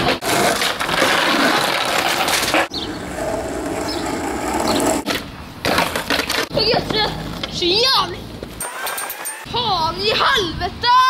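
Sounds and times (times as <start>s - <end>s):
skateboard wheels rolling on concrete: 0.0s - 9.5s.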